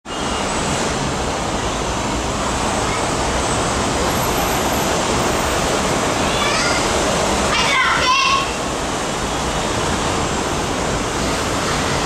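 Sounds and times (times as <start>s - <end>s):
electric train rumbling on rails: 0.1s - 12.0s.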